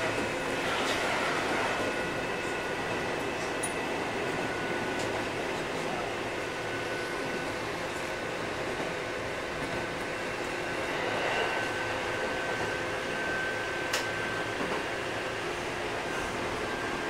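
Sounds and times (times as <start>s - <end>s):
train car interior noise: 0.0s - 17.0s.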